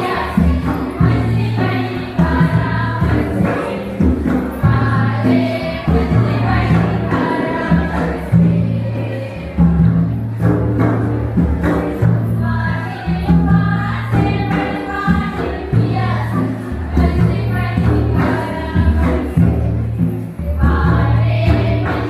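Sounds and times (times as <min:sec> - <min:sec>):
music with singing voices: 0:00.0 - 0:22.0.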